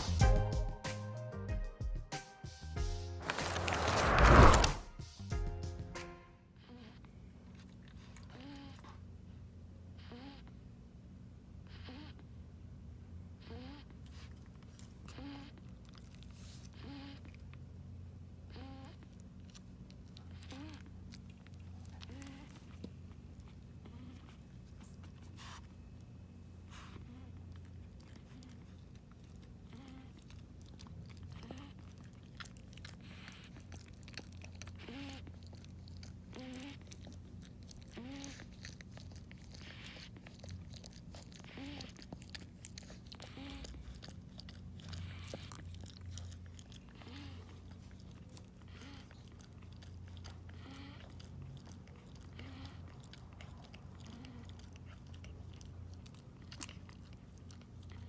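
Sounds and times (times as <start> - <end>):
puppy snoring softly: 6.6 - 10.8, 11.6 - 12.5, 13.4 - 17.7, 18.3 - 58.0.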